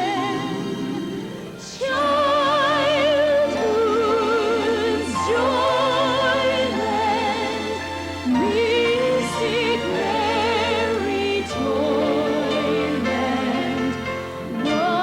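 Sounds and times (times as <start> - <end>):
soprano singing with vibrato: 0.0 - 15.0
sustained accompaniment: 0.0 - 15.0.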